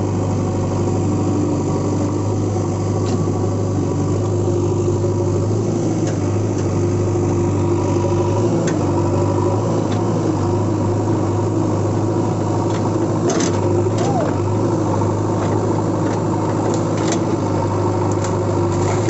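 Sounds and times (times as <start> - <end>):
diesel engine idling: 0.0 - 18.6.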